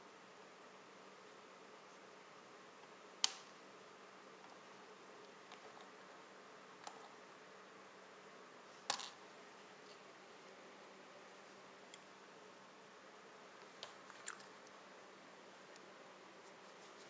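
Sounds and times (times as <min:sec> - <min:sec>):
faint hiss and hum: 0:00.0 - 0:17.0.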